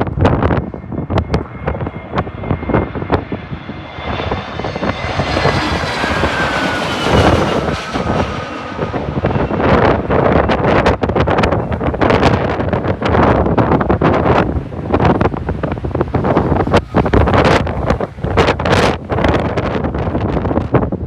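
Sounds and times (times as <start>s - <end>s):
jet airliner passing overhead: 0.0s - 21.0s
wind buffeting microphone: 0.0s - 21.0s.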